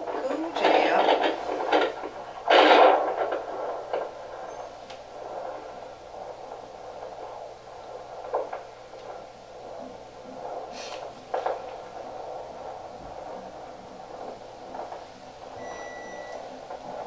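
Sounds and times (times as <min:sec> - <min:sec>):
doppler monitor static whoosh: 0:00.0 - 0:17.0
probe scraping: 0:00.0 - 0:17.0.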